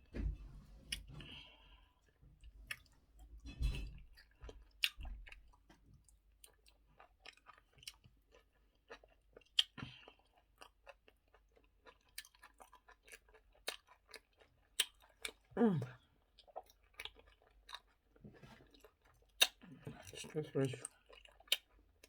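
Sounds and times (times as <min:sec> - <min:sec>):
person chewing food: 0:00.7 - 0:22.0.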